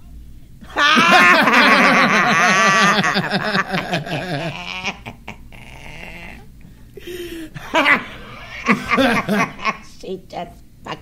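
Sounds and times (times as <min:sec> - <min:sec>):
people laughing: 0:00.7 - 0:09.9.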